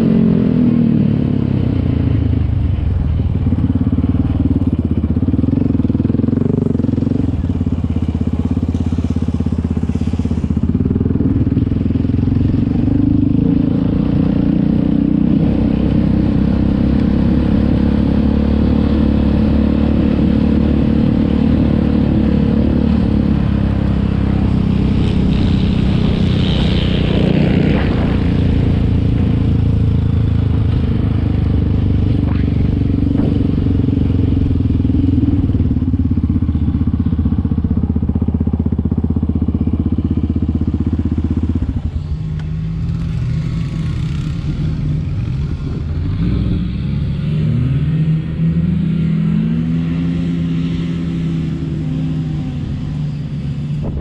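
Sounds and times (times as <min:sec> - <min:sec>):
quad engine under throttle: 0:00.0 - 0:54.0.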